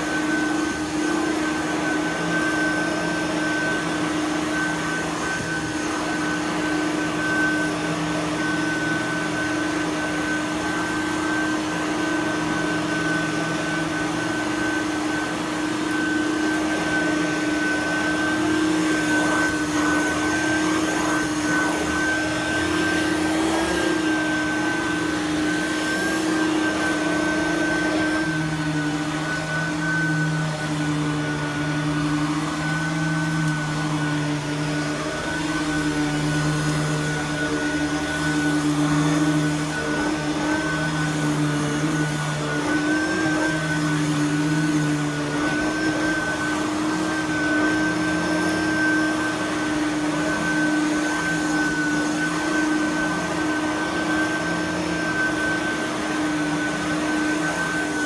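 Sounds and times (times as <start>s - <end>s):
upright vacuum running: 0.0s - 58.0s.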